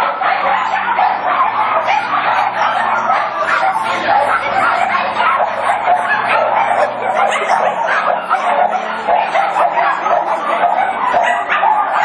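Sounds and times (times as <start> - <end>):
many dogs barking: 0.0 - 12.0.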